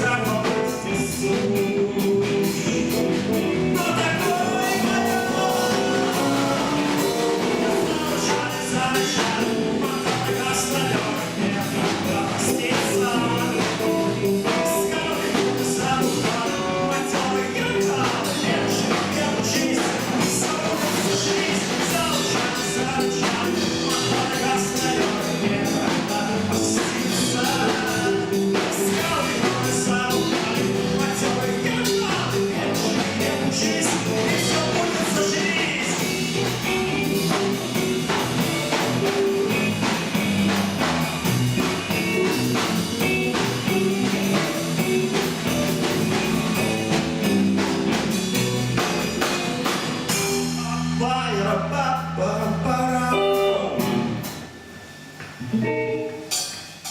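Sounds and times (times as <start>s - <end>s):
drum kit: 0.0s - 56.9s
rock band playing: 0.0s - 56.9s.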